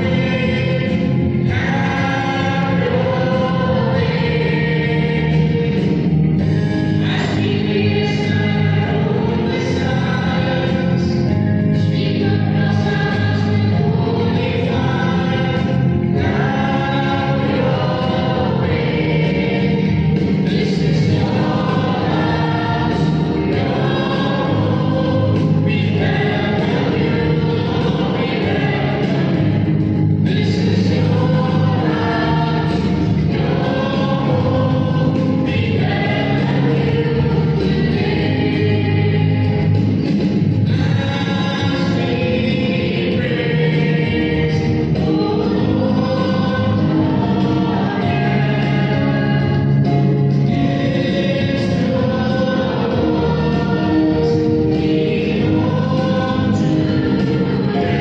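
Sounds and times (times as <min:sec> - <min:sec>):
choir singing a hymn: 0:00.0 - 0:58.0
sustained accompaniment: 0:00.0 - 0:58.0.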